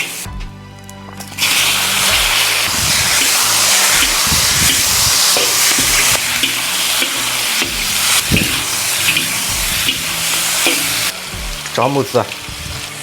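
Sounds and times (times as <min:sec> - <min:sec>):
food sizzling in a wok: 0:00.0 - 0:00.3, 0:01.2 - 0:13.0
spatula scraping: 0:01.4 - 0:13.0.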